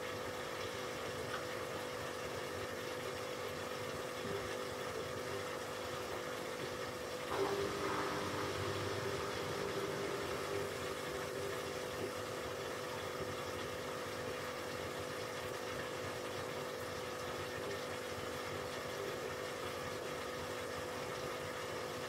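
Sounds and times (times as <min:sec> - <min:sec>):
aquarium pump humming: 0:00.0 - 0:22.0.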